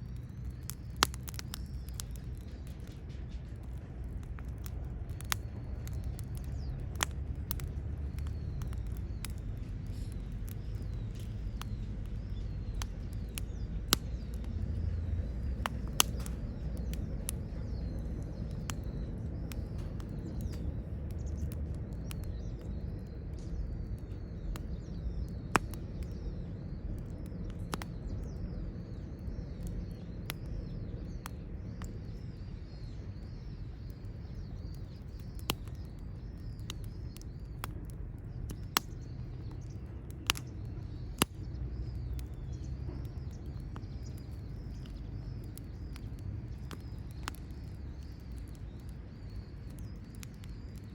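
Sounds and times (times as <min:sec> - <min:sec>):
campfire crackling and popping: 0:00.0 - 0:50.9
birds chirping: 0:00.1 - 0:50.9.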